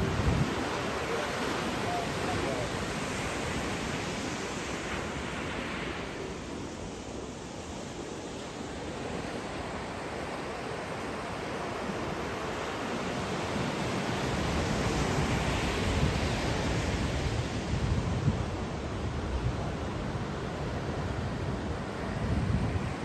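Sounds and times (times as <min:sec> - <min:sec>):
wind rumble on microphone: 0:00.0 - 0:10.3, 0:11.3 - 0:23.0
ocean waves washing on shore: 0:00.0 - 0:23.0.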